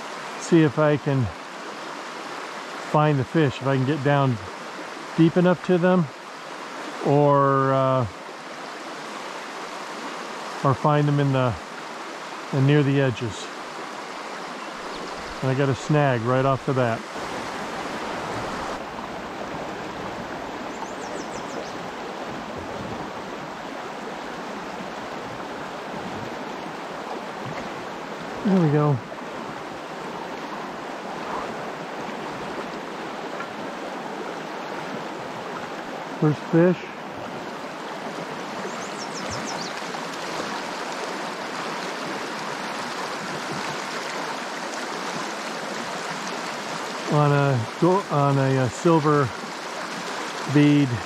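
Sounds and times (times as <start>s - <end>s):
river current rushing: 0.0s - 51.0s.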